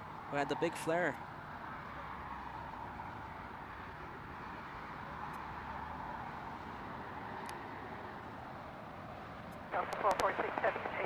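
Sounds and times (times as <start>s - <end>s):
distant jet engines rushing: 0.0s - 11.0s.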